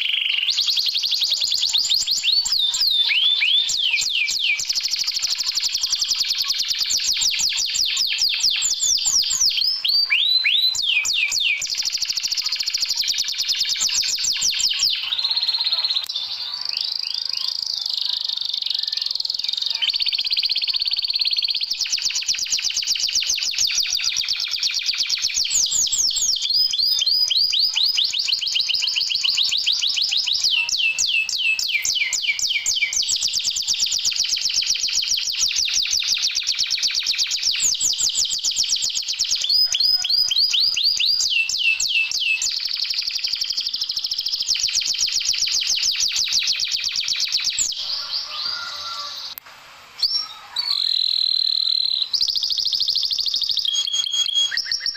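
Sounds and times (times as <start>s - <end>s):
canary singing trills: 0.0s - 49.4s, 50.0s - 54.9s.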